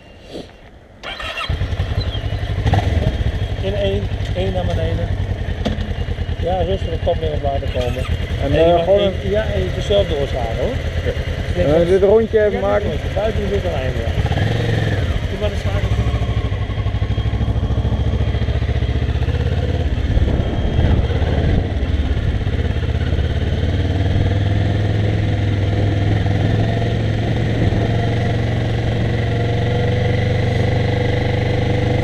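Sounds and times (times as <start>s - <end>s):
motorcycle engine running: 1.1s - 32.0s.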